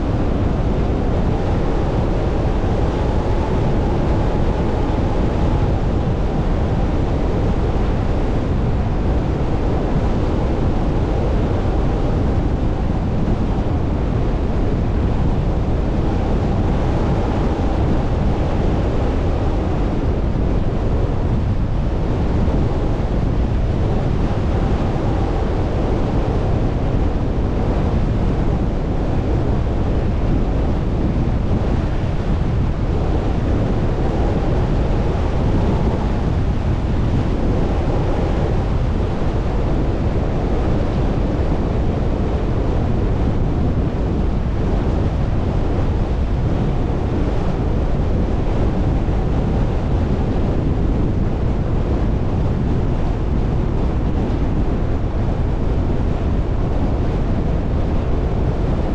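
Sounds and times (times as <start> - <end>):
wind: 0.0 - 58.9.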